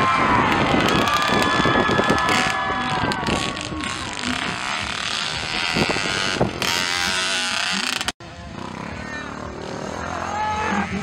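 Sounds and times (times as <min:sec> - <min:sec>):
motocross bike engines revving: 0:00.5 - 0:11.0.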